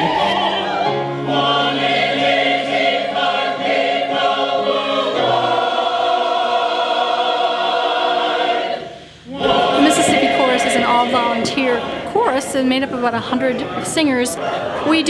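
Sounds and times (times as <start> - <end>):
large choir singing: 0.0 - 13.8.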